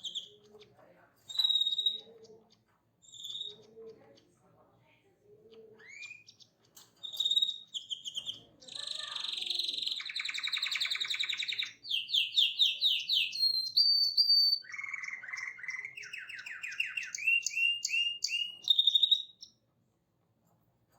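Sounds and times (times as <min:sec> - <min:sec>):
songbird singing: 0:00.0 - 0:04.4, 0:05.4 - 0:19.6.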